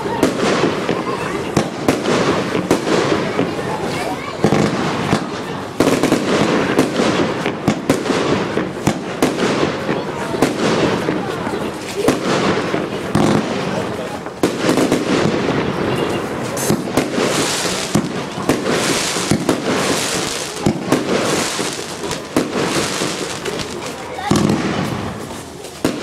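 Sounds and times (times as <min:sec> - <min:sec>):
firework launch and burst reports: 0:00.0 - 0:26.0.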